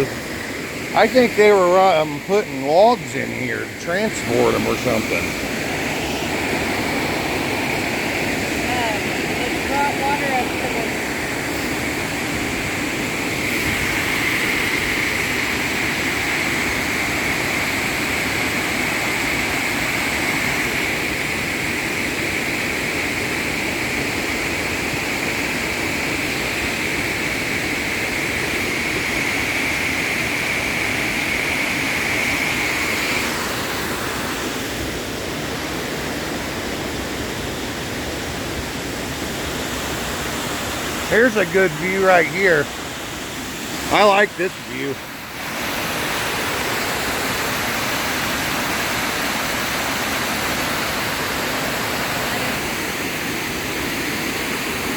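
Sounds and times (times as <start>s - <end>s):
waterfall roar: 0.0s - 54.9s.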